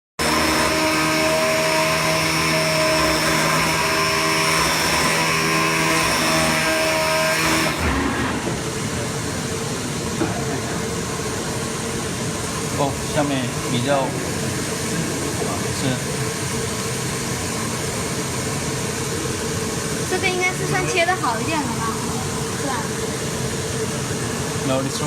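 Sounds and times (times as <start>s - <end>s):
cutting machine drone with whine: 0.2s - 25.0s.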